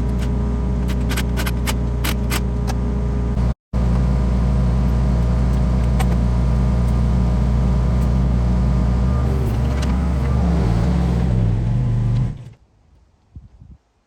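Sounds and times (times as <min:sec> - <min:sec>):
diesel engine running: 0:00.0 - 0:12.6.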